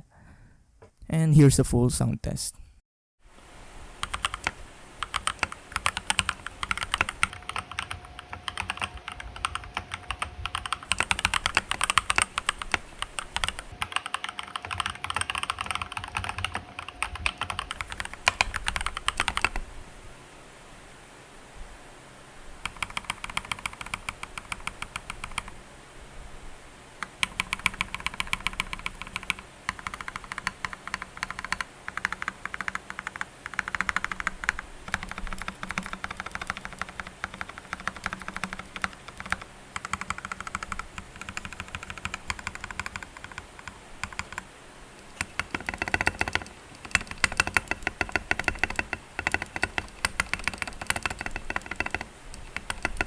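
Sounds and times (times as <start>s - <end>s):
mechanical keyboard typing: 4.0s - 19.6s, 22.6s - 25.6s, 27.0s - 53.0s.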